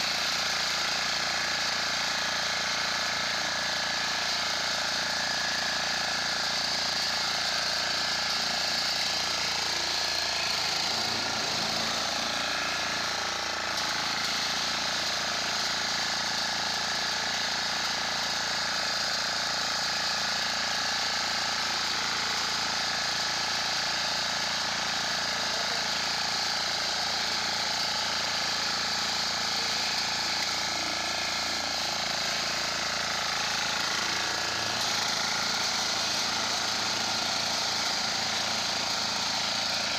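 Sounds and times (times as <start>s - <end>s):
cutter bar mowing crop: 0.0s - 39.9s
small engine running steadily: 0.0s - 39.9s.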